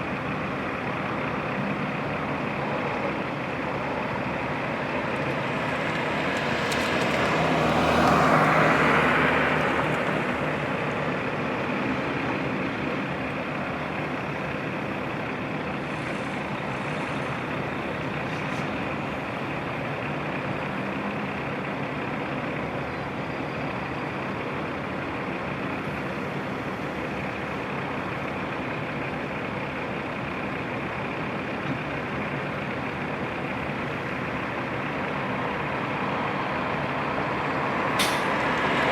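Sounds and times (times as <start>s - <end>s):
heavy truck engines running: 0.0s - 38.9s.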